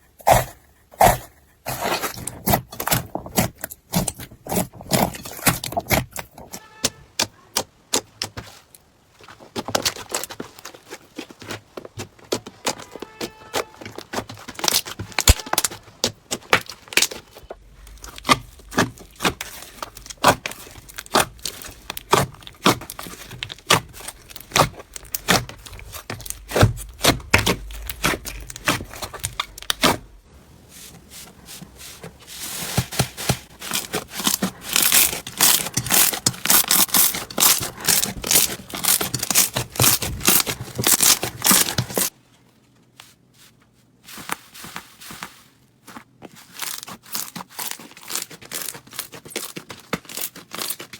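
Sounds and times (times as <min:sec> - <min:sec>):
slime squishing and crackling: 0:01.0 - 0:08.8, 0:09.4 - 0:42.1, 0:46.4 - 0:50.9.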